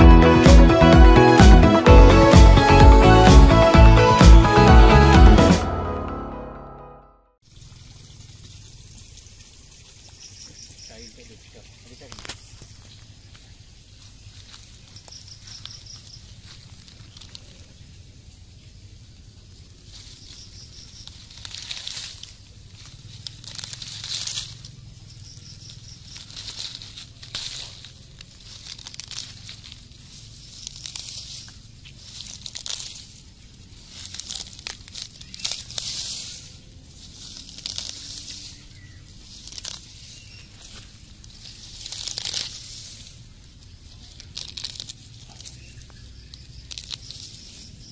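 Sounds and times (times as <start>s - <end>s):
leaves and grass rustling: 7.5s - 47.9s.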